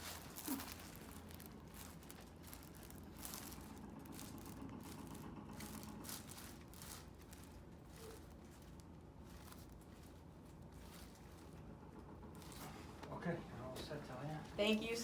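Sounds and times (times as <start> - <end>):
faint rustling and handling: 0.0 - 15.0
steady low hum: 0.0 - 15.0.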